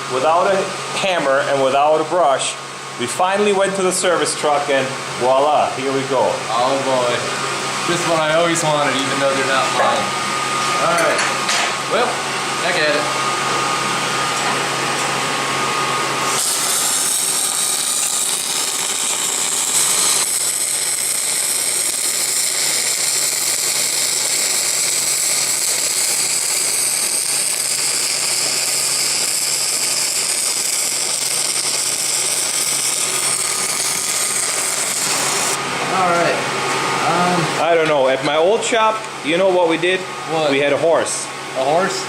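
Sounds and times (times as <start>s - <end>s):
metalworking hiss and whine: 0.0s - 36.4s.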